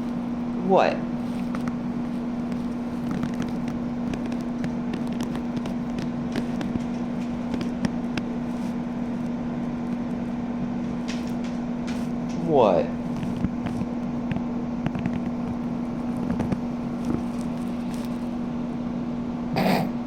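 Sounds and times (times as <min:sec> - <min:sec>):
low mechanical hum: 0:00.0 - 0:20.0
small clicks and rustles: 0:01.1 - 0:12.4, 0:13.1 - 0:18.5.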